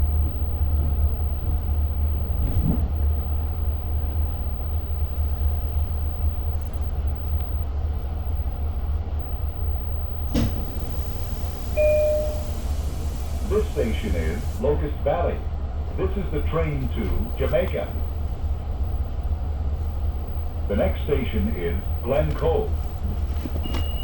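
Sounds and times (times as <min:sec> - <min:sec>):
train rumbling inside carriage: 0:00.0 - 0:24.0.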